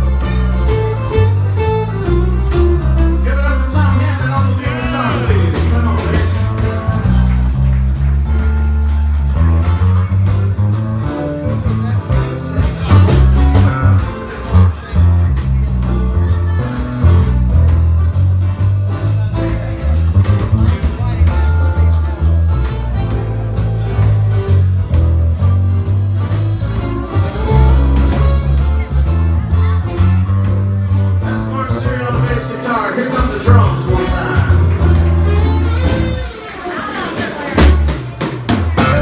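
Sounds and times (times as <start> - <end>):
electric bass: 0.0 - 36.5, 37.5 - 39.0
acoustic guitars: 0.0 - 39.0
drum kit beat: 0.0 - 39.0.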